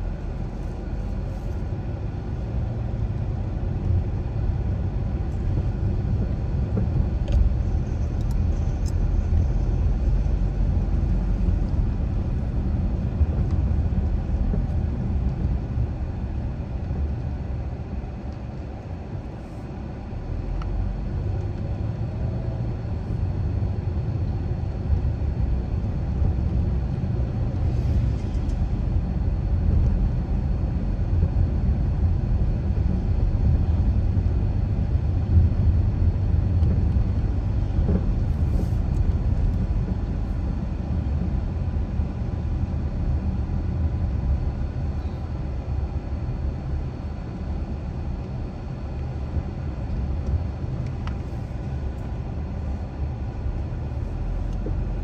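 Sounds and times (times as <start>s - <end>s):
car tyres and engine rumble: 0.0s - 55.0s.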